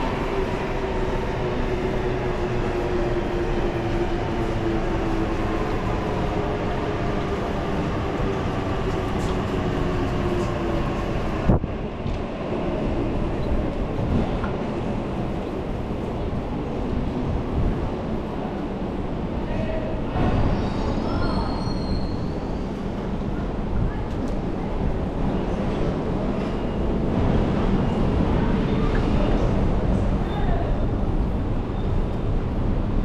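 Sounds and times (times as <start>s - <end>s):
electric train rumble and hum: 0.0s - 33.0s.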